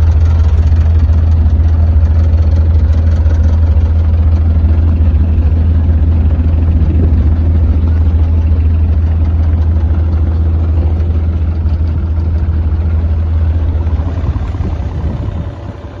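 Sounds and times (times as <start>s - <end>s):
excavator diesel engine idling: 0.0s - 16.0s.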